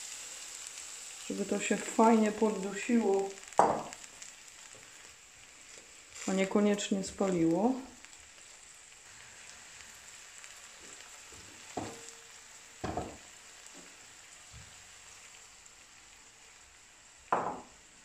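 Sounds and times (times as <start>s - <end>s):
greens sizzling in frying pan: 0.0s - 18.0s.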